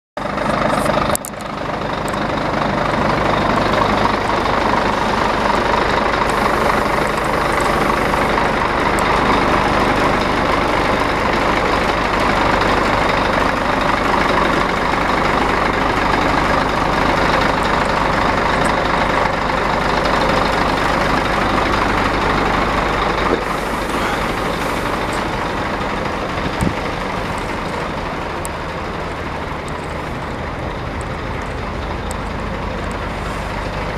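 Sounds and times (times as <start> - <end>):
truck diesel engine running: 0.2 - 33.9.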